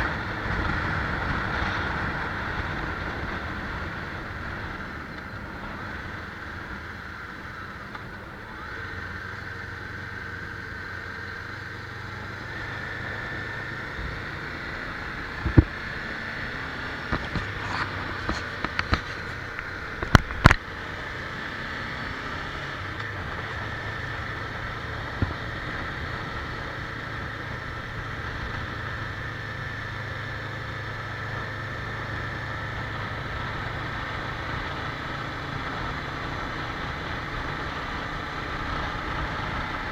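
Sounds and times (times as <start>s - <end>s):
vehicle running noise: 0.0s - 39.9s.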